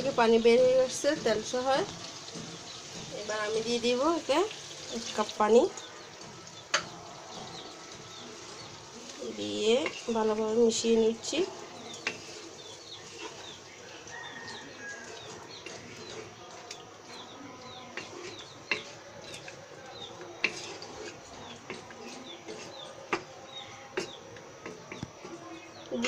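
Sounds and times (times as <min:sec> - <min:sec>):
spatula tapping pan: 0:00.0 - 0:25.7
spatula stirring food in a pan: 0:00.0 - 0:26.0.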